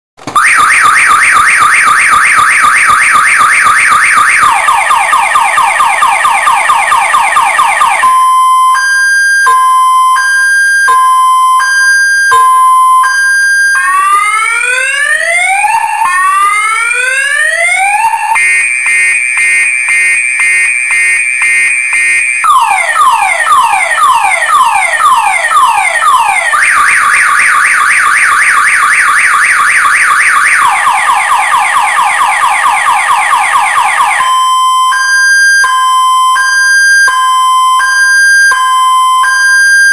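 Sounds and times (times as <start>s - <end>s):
car alarm siren: 0.4s - 39.9s.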